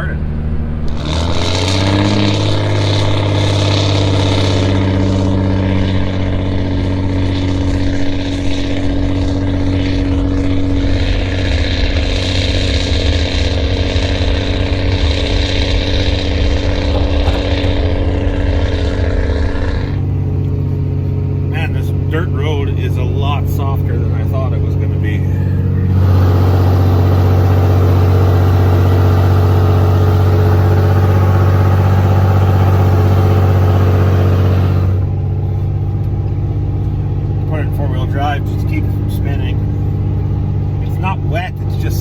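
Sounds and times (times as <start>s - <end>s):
truck engine under load: 0.0s - 42.0s.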